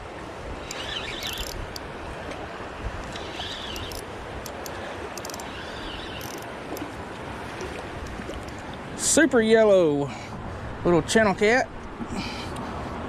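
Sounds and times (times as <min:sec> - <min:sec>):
rushing creek water: 0:00.0 - 0:10.8.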